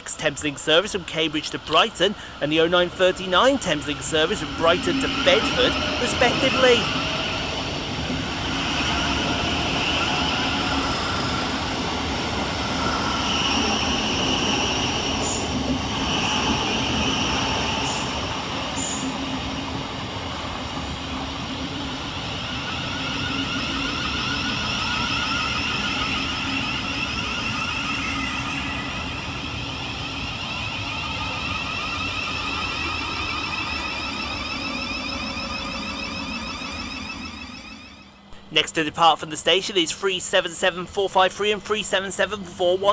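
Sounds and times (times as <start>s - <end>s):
train wheels on rail: 0.0s - 37.5s
high held tones: 0.0s - 38.7s.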